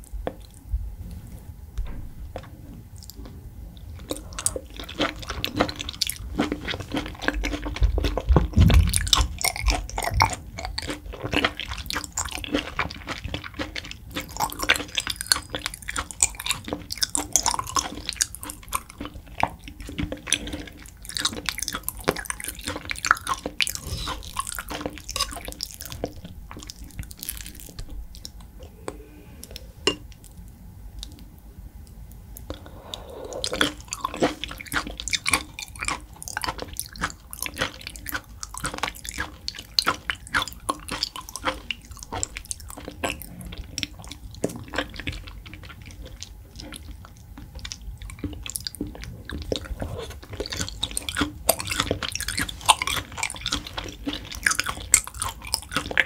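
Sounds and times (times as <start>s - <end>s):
close chewing mouth clicks: 2.9s - 30.4s, 32.4s - 56.0s.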